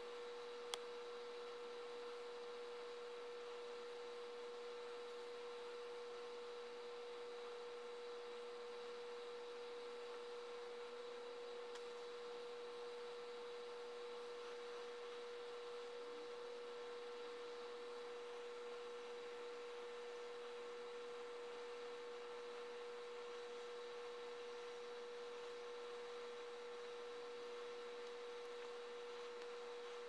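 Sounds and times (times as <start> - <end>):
steady humming tone: 0.0 - 30.0.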